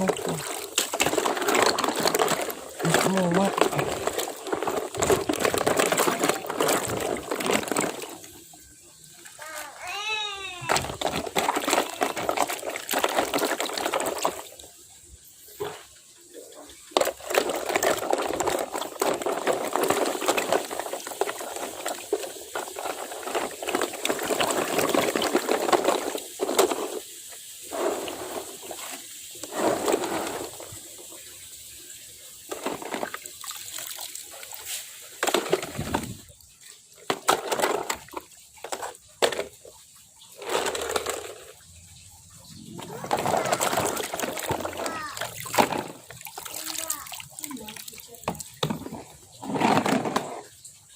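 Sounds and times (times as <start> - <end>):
water splashing and sloshing: 0.0 - 50.9.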